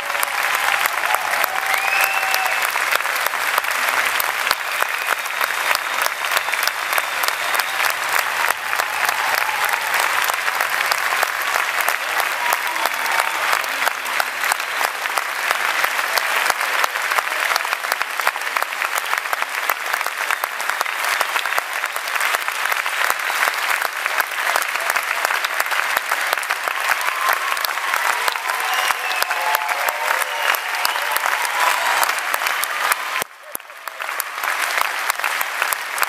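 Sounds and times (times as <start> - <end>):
crowd applauding: 0.0 - 36.0.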